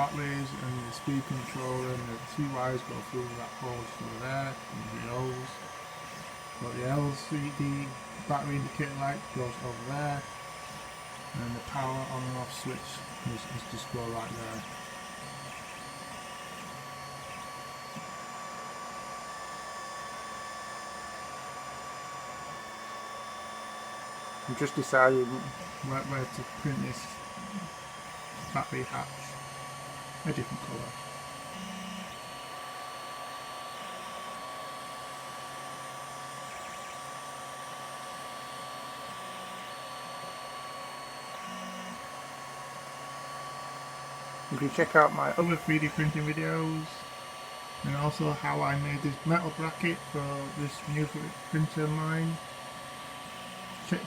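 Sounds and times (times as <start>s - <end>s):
cooling fan whirring: 0.0s - 54.0s
stepper motors humming: 0.0s - 54.0s.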